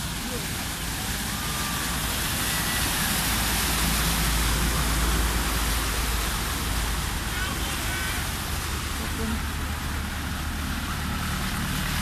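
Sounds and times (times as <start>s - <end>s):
cars driving through floodwater: 0.0s - 12.0s.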